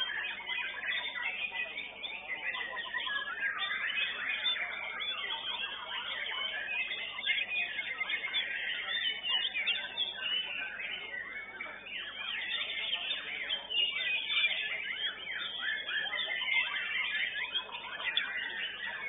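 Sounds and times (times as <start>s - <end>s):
birds singing whistles and trills: 0.0s - 19.0s.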